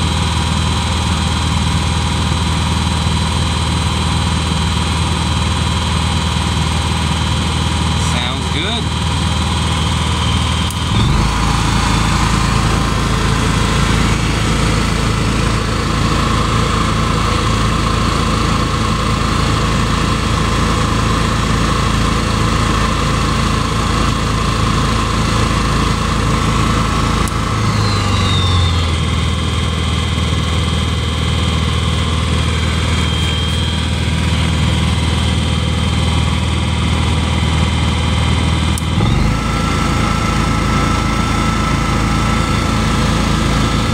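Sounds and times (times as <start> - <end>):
generator engine running: 0.0 - 43.9.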